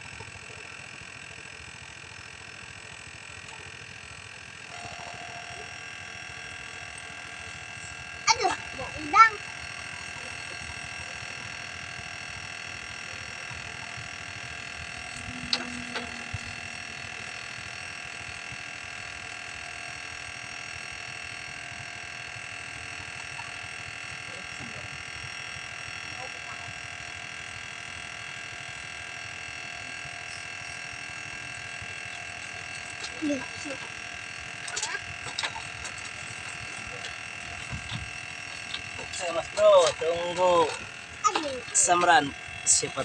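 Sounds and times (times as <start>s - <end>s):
steady multi-tone hum: 0.0s - 43.0s.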